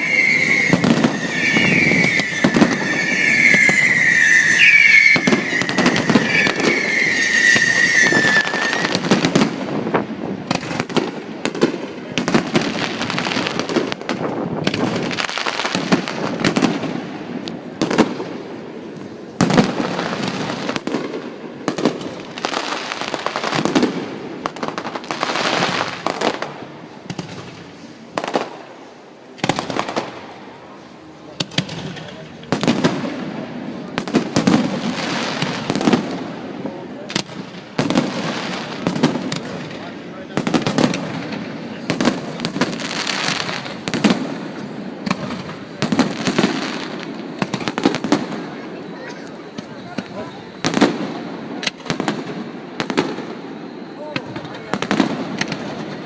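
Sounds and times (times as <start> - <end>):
fireworks bangs and crackles: 0.0 - 56.0
fireworks whistling: 0.0 - 56.0.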